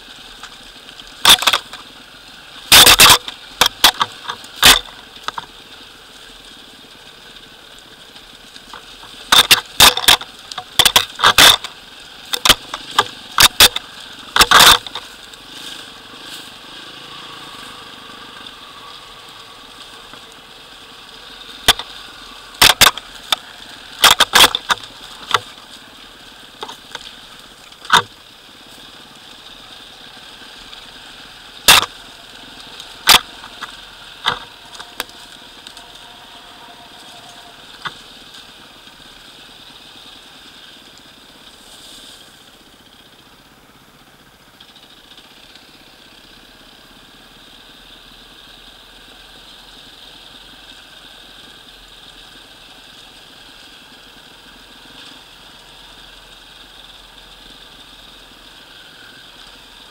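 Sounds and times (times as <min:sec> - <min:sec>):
dirt bike engine running: 0:00.0 - 0:59.9
rocks and brush knocking bike: 0:00.0 - 0:59.9.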